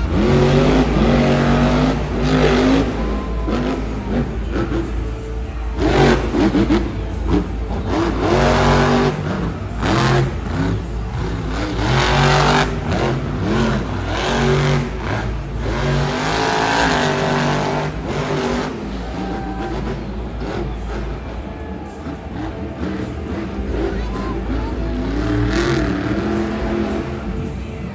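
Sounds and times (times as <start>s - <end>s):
monster truck engine revving: 0.0s - 27.9s.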